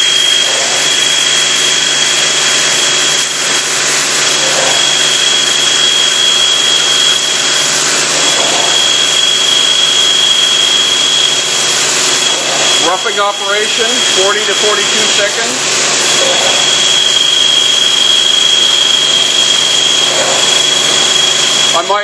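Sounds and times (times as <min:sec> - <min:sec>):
coolant spraying hiss: 0:00.0 - 0:22.0
drilling machine whine: 0:00.0 - 0:22.0.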